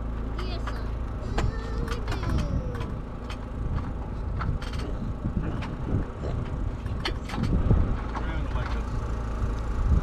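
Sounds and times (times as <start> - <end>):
scattered knocks and clicks: 0.4 - 8.9
wind rumbling on microphone: 1.2 - 10.0.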